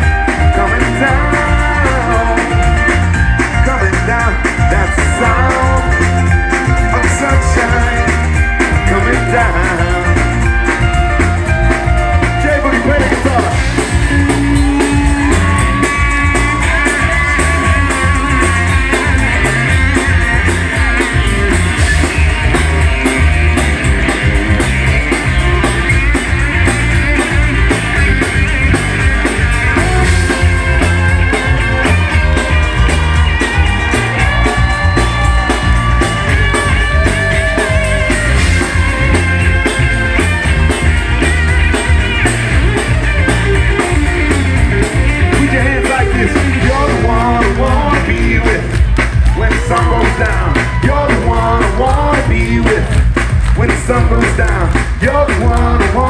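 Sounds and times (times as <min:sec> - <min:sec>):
bass and drum groove: 0:00.0 - 0:56.0
lead guitar bending notes: 0:00.0 - 0:56.0.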